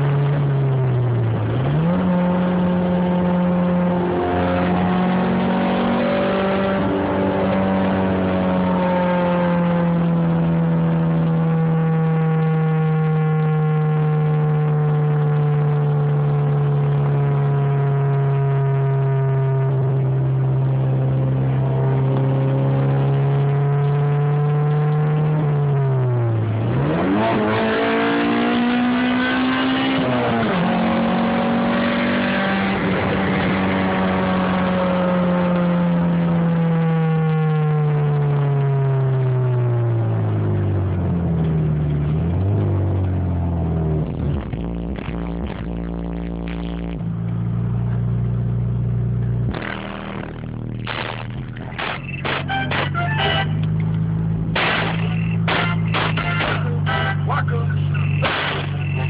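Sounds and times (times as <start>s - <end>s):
car engine at high revs: 0.0s - 59.0s.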